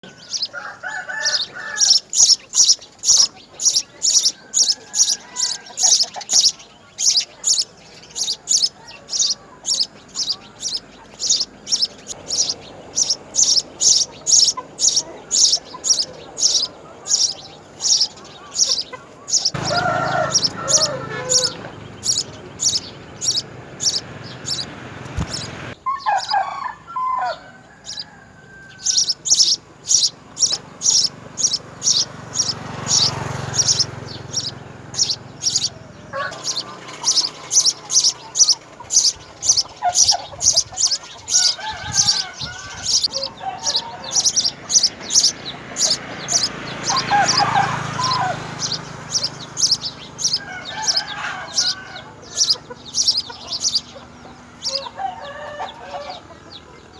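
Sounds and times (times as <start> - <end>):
low bending bird calls: 0.0 - 56.9
sparrows chirping: 0.0 - 56.9.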